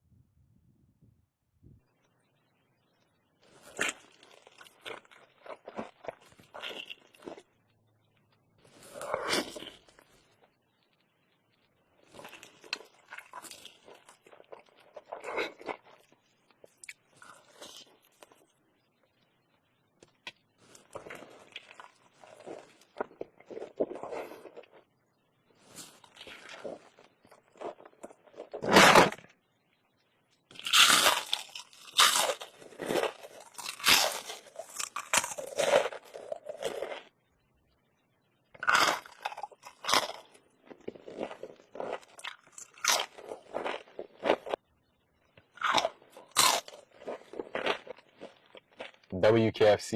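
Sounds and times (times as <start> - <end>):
crunchy food being chewed: 3.3 - 29.4, 30.3 - 37.2, 38.4 - 49.2.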